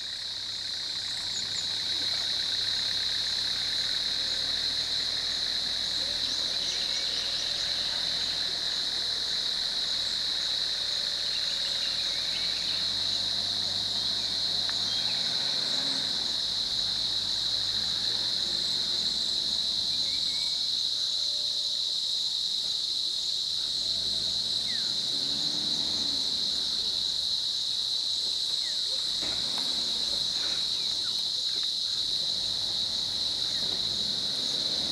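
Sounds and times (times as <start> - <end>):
high-pitched insect chorus: 0.0 - 34.9
vehicle engines idling: 0.0 - 34.9.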